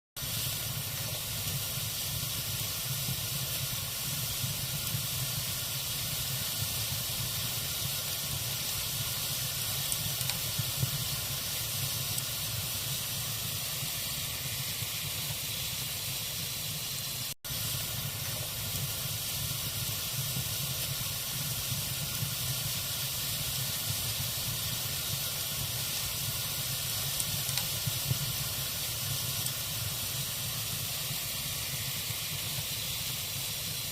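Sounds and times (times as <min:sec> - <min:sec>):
log fire hissing: 0:00.2 - 0:33.9.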